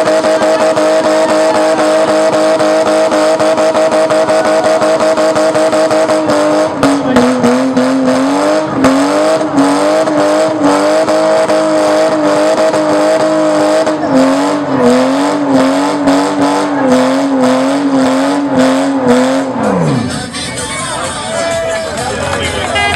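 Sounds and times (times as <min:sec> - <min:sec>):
car engine at high revs: 0:00.0 - 0:20.2.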